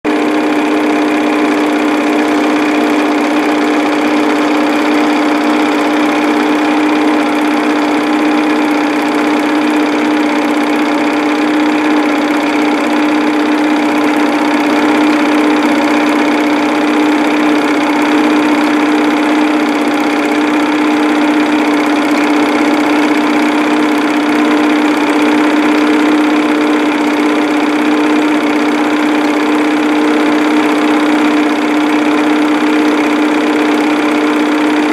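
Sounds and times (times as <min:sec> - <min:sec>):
film projector motor hum: 0:00.1 - 0:34.9.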